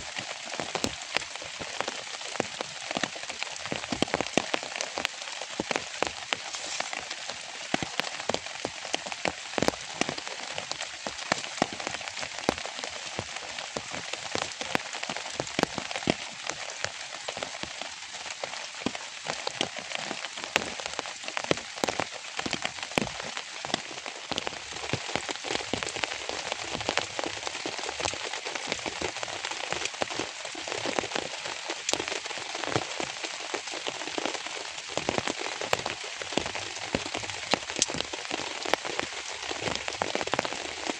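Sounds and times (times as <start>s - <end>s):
rain hiss: 0.0s - 40.9s
raindrops tapping close by: 0.0s - 40.9s.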